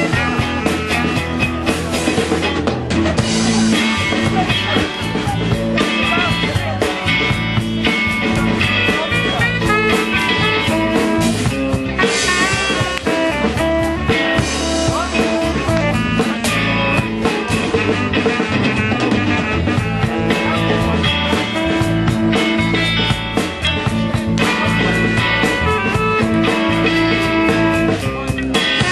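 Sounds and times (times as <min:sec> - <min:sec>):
bass line: 0:00.0 - 0:28.9
drum kit beat: 0:00.0 - 0:28.9
guitars: 0:00.0 - 0:28.9.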